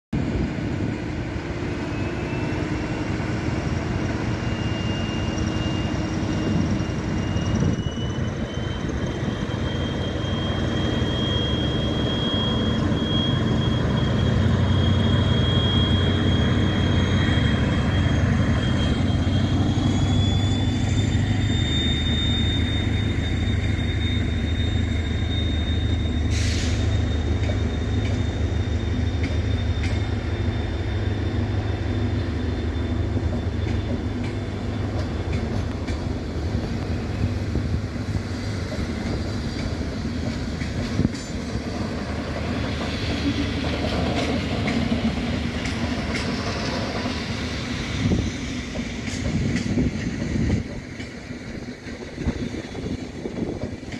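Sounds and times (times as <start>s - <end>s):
diesel locomotive engine rumbling: 0.1s - 53.9s.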